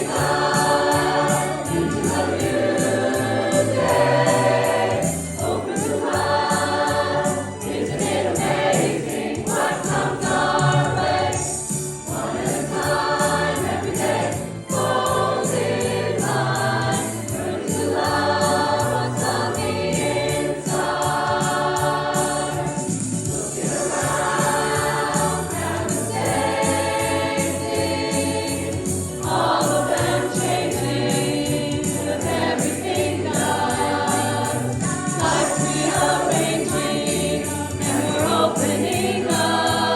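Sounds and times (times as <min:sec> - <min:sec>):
choir singing: 0:00.0 - 0:39.9
fast percussive beat: 0:00.0 - 0:39.9.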